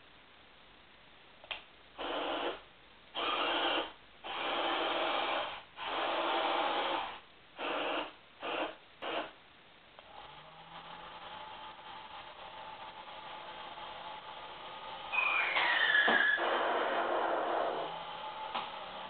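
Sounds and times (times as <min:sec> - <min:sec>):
tinny electronic buzzing bursts: 0:01.9 - 0:09.4, 0:10.0 - 0:19.0.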